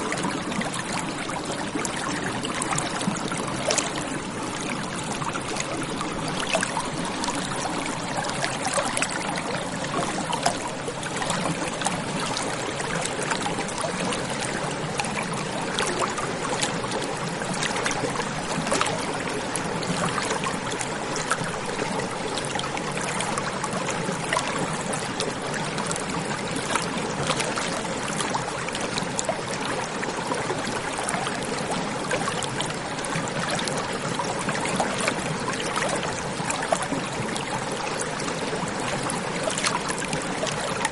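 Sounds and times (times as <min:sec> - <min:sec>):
stream running water: 0:00.0 - 0:40.9.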